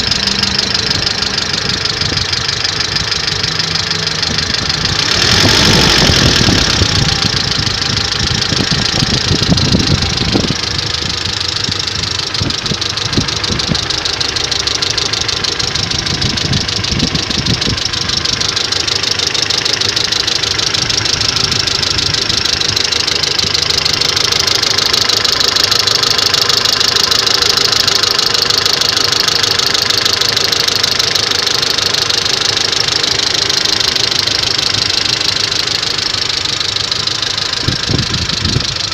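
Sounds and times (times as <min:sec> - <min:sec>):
car engine idling: 0:00.0 - 0:38.9
rapid engine knocking: 0:00.0 - 0:38.9.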